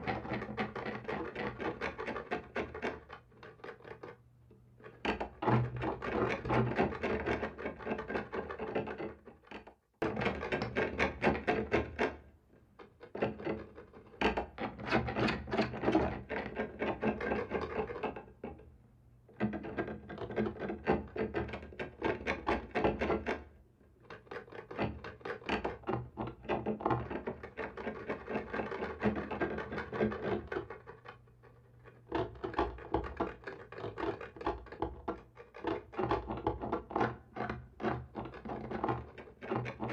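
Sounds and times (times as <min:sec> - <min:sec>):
scratching on a wall: 0:00.0 - 0:04.2, 0:04.8 - 0:12.2, 0:12.8 - 0:18.6, 0:19.4 - 0:39.9.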